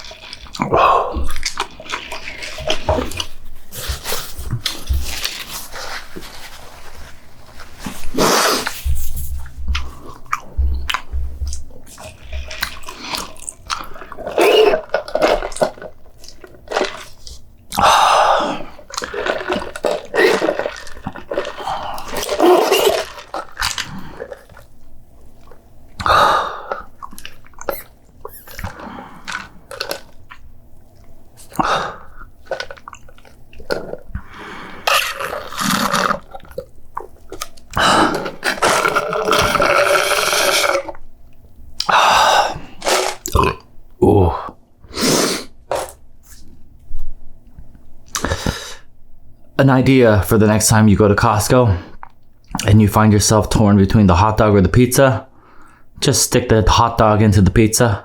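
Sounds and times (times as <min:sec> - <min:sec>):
person chewing food: 0:00.0 - 0:44.3, 0:45.0 - 0:48.8, 0:51.9 - 0:52.7.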